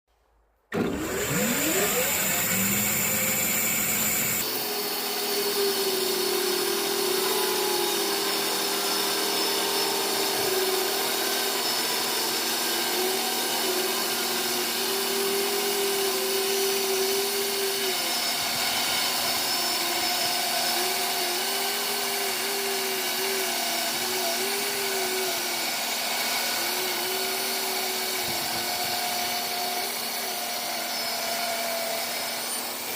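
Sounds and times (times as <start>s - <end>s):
band saw cutting log: 0.7s - 32.9s.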